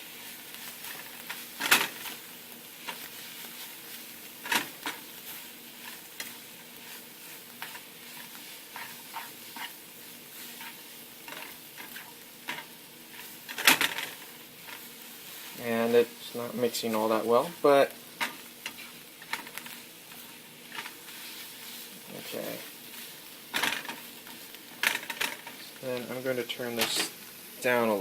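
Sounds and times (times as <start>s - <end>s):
food sizzling in a frying pan: 0.0s - 28.0s.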